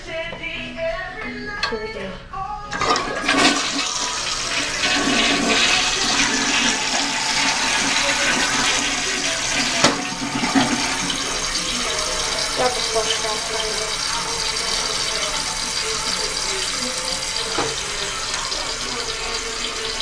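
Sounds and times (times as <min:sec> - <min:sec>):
toilet flushing: 0:02.7 - 0:20.0.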